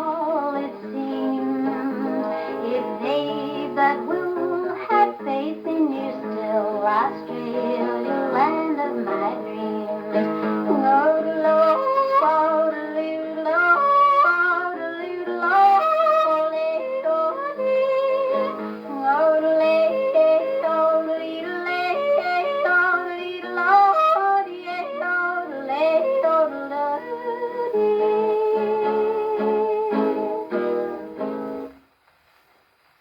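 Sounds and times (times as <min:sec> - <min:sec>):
instrumental backing music: 0:00.0 - 0:33.0.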